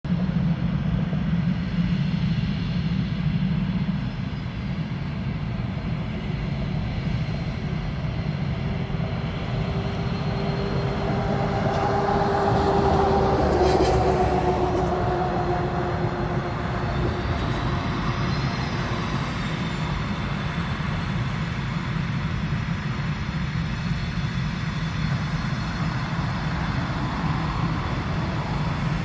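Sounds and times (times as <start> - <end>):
jet engine rumble: 0.1 - 29.0
jet whine: 0.3 - 29.0.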